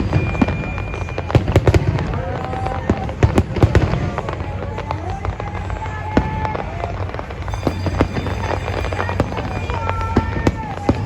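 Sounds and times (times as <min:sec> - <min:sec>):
fireworks bangs and crackles: 0:00.0 - 0:11.0
music: 0:00.0 - 0:11.0.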